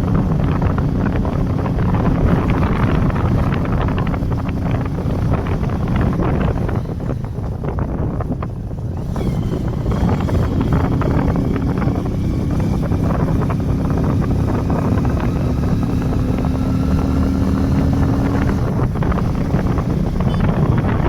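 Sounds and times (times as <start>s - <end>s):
held engine tone: 0.0s - 21.0s
vehicle engine drone: 0.0s - 21.0s
wind buffeting microphone: 0.0s - 21.0s.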